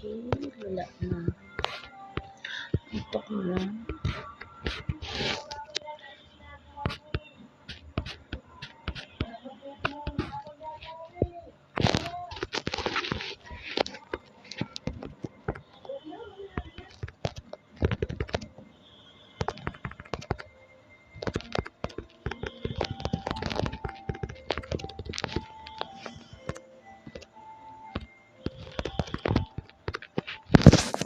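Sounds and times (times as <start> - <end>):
rapid irregular clicks and taps: 0.0 - 6.2, 6.8 - 31.0.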